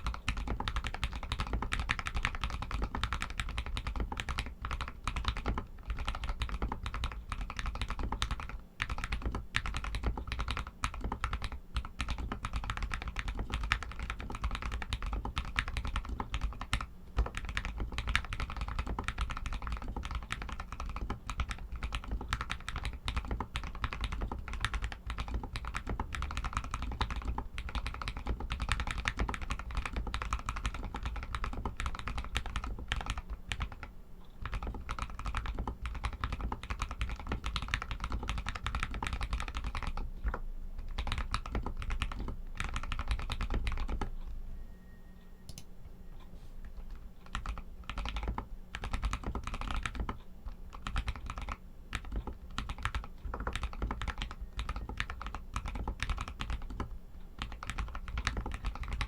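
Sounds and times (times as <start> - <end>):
fast typing on mechanical keyboard: 0.0 - 44.1, 46.8 - 59.0.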